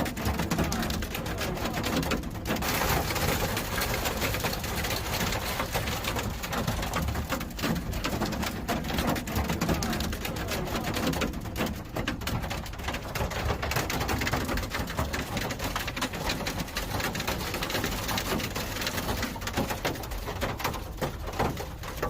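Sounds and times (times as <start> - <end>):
heavy rain pattering: 0.0 - 22.0.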